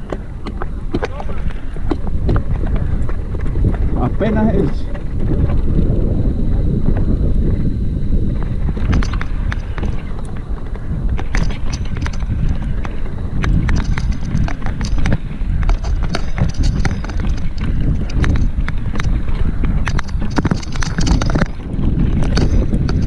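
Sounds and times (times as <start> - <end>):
bike clicks and rattles: 0.0 - 23.0
bike tyres rumbling on dirt: 0.0 - 23.0.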